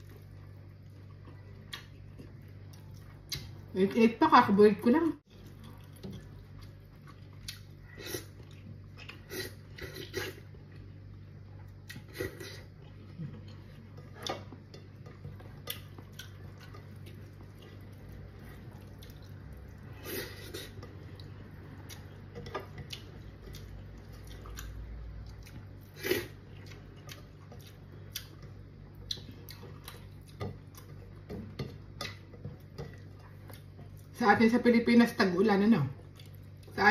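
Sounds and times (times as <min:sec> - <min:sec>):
person chewing: 0:00.0 - 0:03.7, 0:05.3 - 0:34.1, 0:36.0 - 0:36.8.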